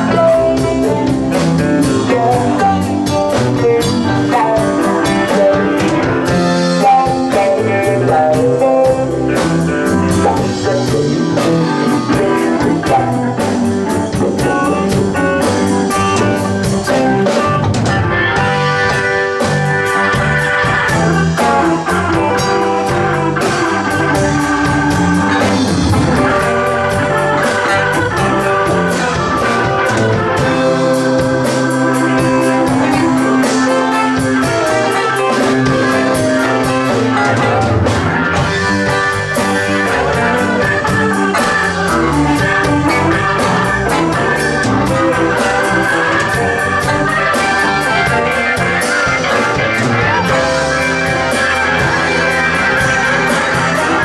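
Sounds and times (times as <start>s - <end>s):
drum kit: 0.0s - 54.0s
electric guitar lead: 0.0s - 54.0s
keyboards: 0.0s - 54.0s.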